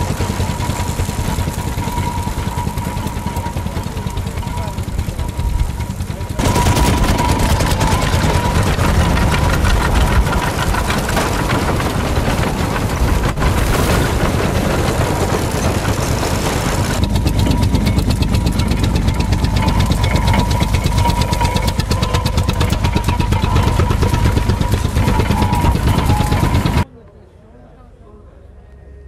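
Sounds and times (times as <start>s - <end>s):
tractor engine running: 0.0s - 26.8s
binder mechanism clattering: 1.8s - 26.8s.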